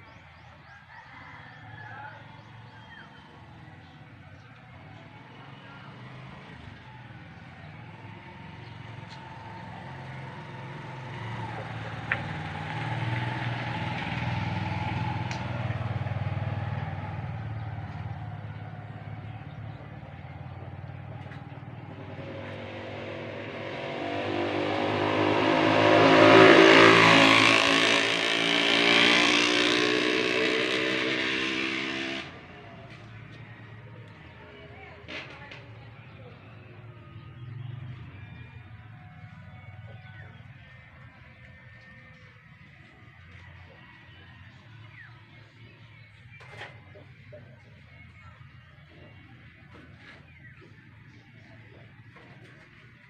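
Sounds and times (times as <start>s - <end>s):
vehicle engines passing by: 0.0s - 53.0s.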